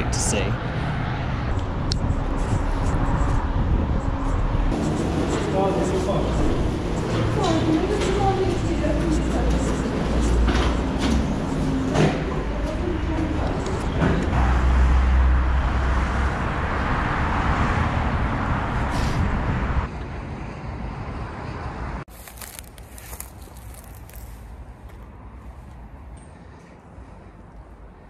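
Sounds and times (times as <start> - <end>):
passing vehicle rumble: 0.0 - 28.0
road traffic noise: 0.0 - 28.0.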